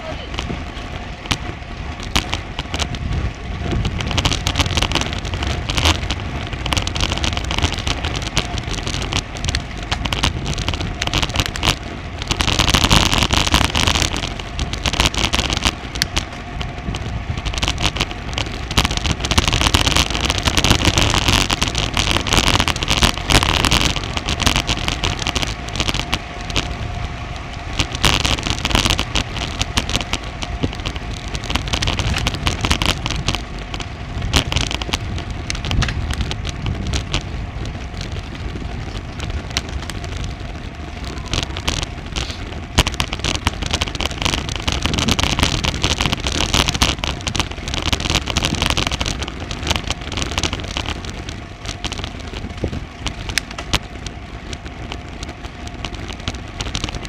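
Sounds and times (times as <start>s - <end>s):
crackling road rattle: 0.0s - 57.0s
wind buffeting microphone: 0.0s - 57.0s.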